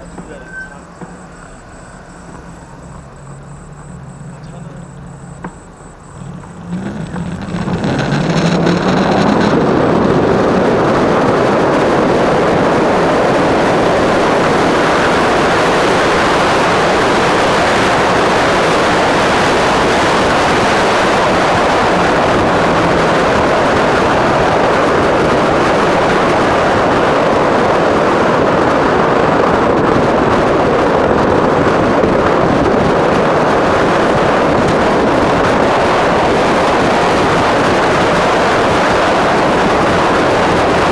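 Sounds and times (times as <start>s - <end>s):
tyre noise on road: 0.0s - 40.9s
wind rushing over microphone: 0.0s - 40.9s.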